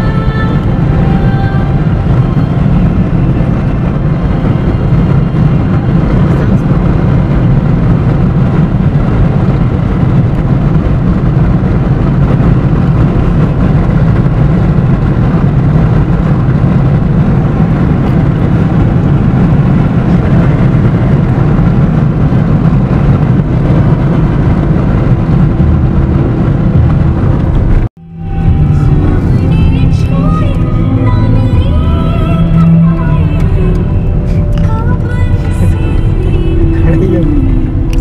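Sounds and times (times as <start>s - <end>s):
car driving on asphalt: 0.0s - 38.0s.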